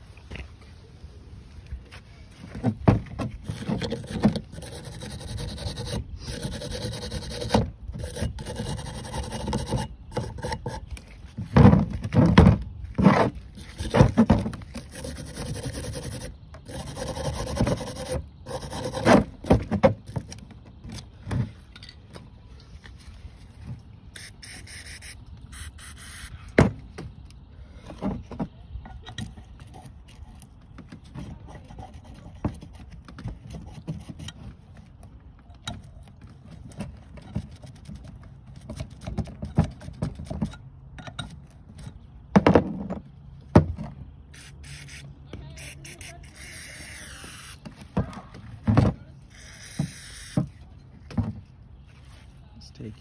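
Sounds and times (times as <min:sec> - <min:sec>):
scrubbing and scraping metal parts: 0:01.7 - 0:52.4.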